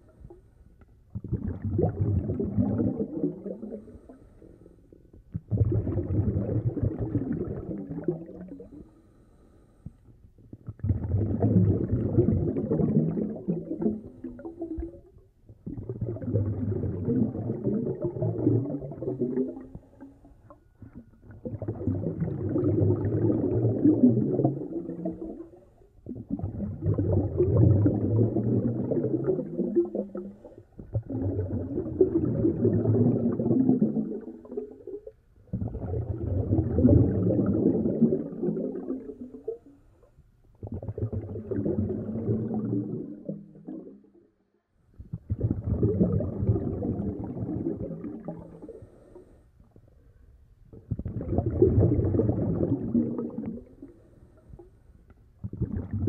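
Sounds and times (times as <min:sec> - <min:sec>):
water bubbling and gurgling: 0:00.0 - 0:09.4, 0:10.4 - 0:44.2, 0:45.0 - 0:49.8, 0:50.6 - 0:56.0.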